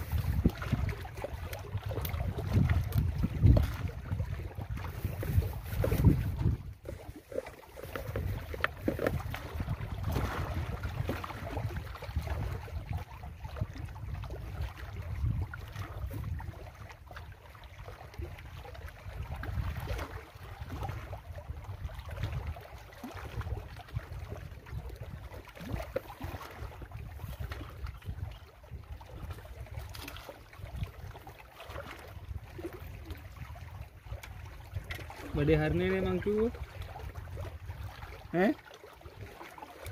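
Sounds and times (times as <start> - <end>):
wind buffeting microphone: 0.0 - 38.5
waves lapping against rocks: 0.0 - 39.9.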